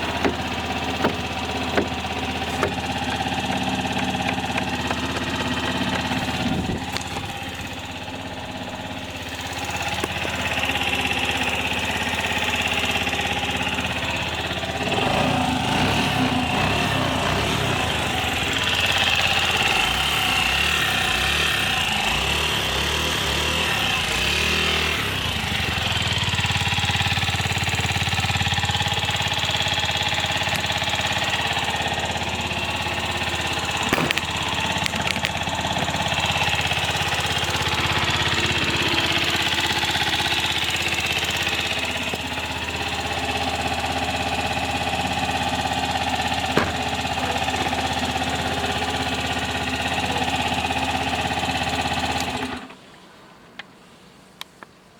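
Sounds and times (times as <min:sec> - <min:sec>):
scooter engine running: 0:00.0 - 0:52.8.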